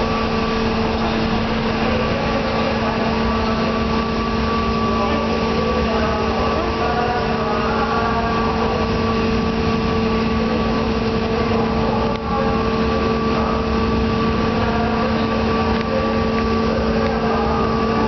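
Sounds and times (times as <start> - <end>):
ship engines humming: 0.0 - 18.0.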